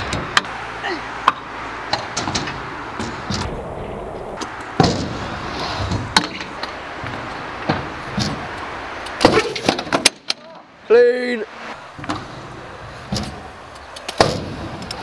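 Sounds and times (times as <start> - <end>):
scooter wheels rolling on ramp: 1.2 - 10.5, 12.0 - 15.0.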